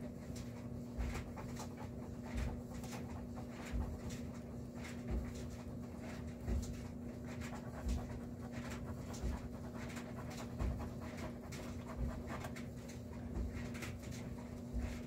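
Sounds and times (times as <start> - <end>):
steady low hum: 0.0 - 15.0
pencil scratching strokes: 1.2 - 5.0, 6.2 - 15.0.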